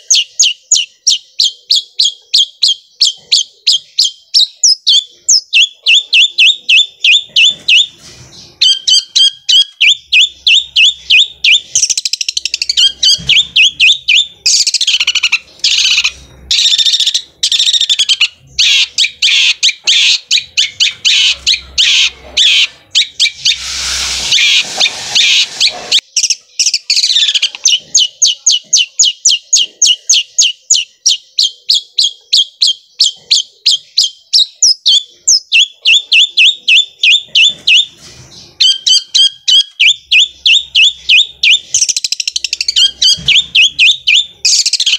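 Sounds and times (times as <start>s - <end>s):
bird singing sharp rapid notes: 0.0s - 44.9s.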